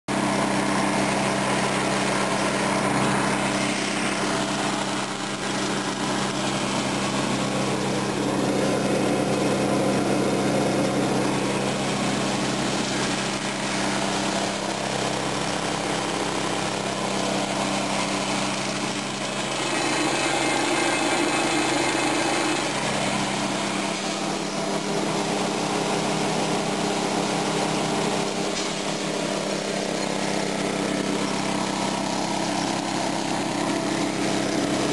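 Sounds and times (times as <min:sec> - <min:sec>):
engine running steadily: 0:00.1 - 0:34.9.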